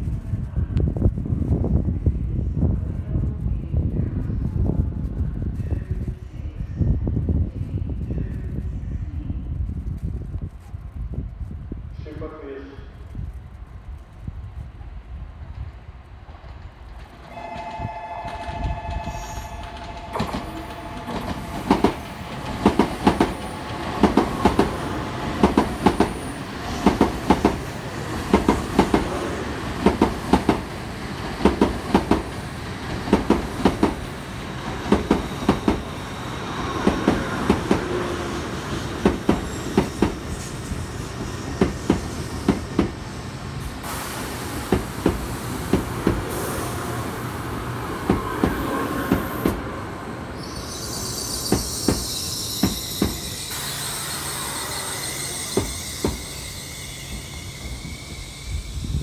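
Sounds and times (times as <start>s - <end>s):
train rolling rumble: 0.0s - 12.1s, 12.9s - 59.0s.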